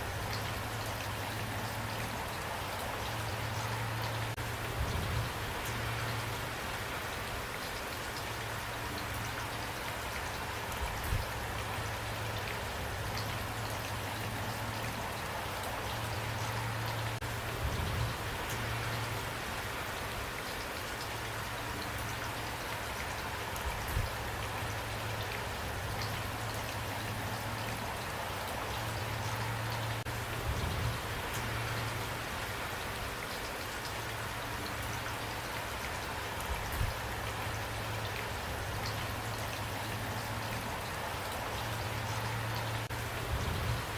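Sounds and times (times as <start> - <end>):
rain pattering on a surface: 0.0 - 43.9.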